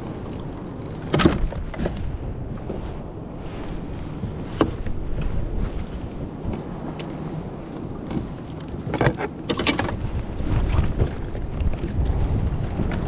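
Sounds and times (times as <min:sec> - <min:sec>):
water sloshing around kayak: 0:00.0 - 0:13.0
wind rumbling on microphone: 0:00.0 - 0:13.0.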